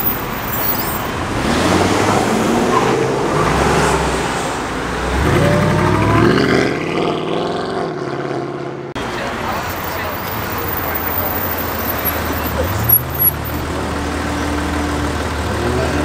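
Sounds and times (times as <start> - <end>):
car engine revving pulling away: 1.2 - 16.0.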